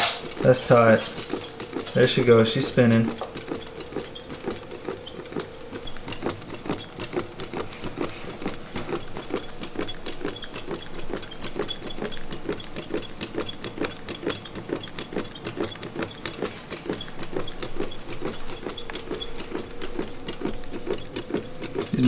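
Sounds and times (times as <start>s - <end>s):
stirling engine clicking steadily: 0.0s - 22.0s.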